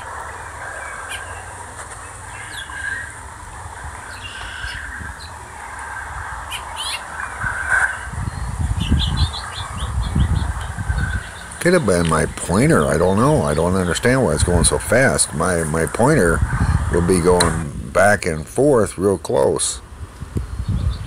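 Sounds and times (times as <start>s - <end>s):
small birds chirping: 0.0s - 19.8s, 20.4s - 21.0s
low rumbling on microphone: 0.0s - 21.0s.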